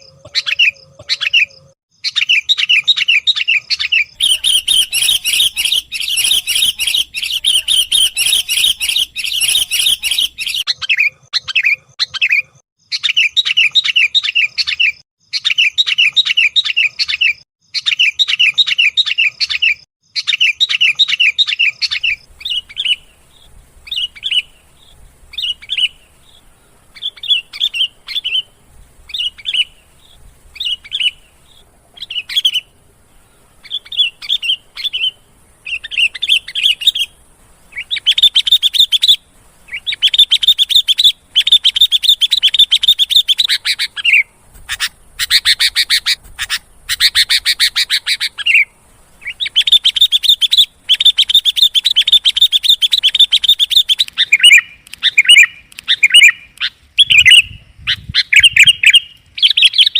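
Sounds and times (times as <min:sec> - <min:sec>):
bird chirping and chattering: 0:00.0 - 0:59.9.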